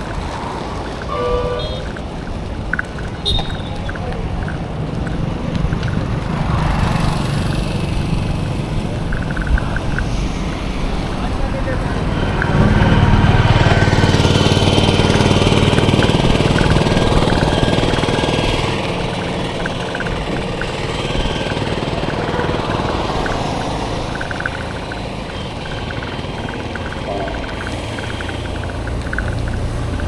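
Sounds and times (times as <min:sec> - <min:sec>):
rapid ticking: 0:00.0 - 0:30.0
vehicle engine running: 0:00.0 - 0:30.0.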